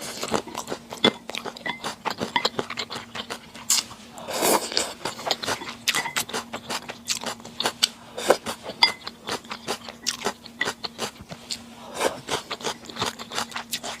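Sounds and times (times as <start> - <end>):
chewing and crunching: 0.0 - 14.0
faint steady hum: 0.0 - 14.0.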